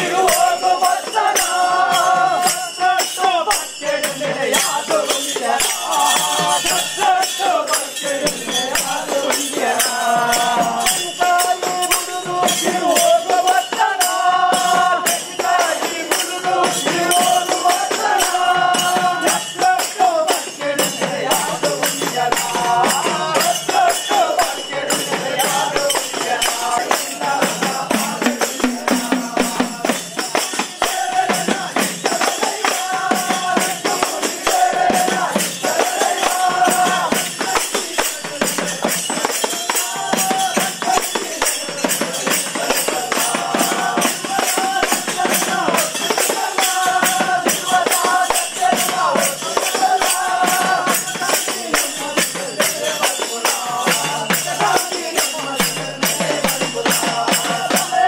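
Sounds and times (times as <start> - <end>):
fast steady percussion: 0.0 - 58.0.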